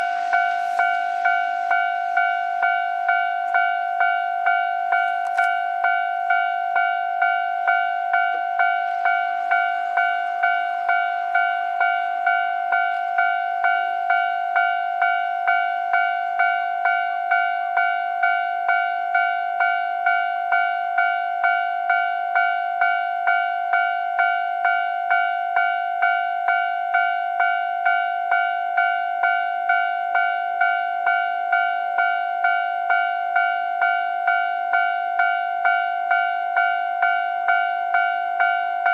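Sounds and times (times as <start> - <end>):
level crossing warning bell: 0.0 - 38.9.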